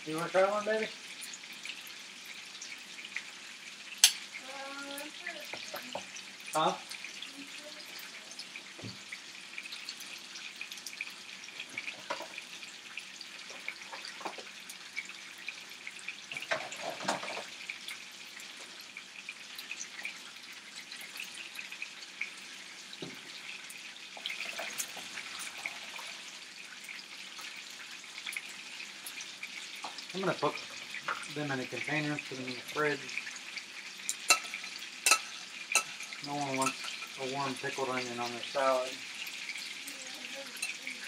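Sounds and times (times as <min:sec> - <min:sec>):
chicken sizzling in a pan: 0:00.0 - 0:41.0.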